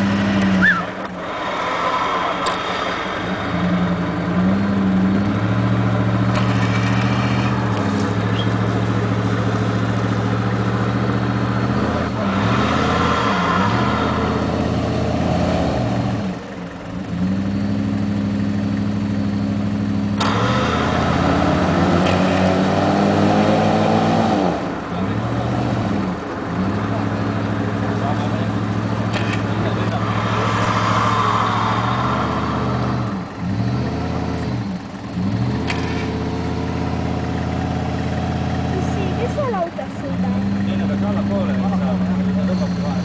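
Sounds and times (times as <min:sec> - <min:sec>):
vehicle engine revving under load: 0:00.0 - 0:43.0.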